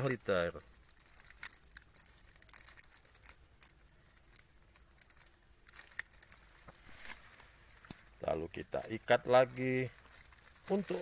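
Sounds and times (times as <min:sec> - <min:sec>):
crickets chirring: 0:00.0 - 0:11.0
faint clicks and rustles: 0:00.0 - 0:11.0.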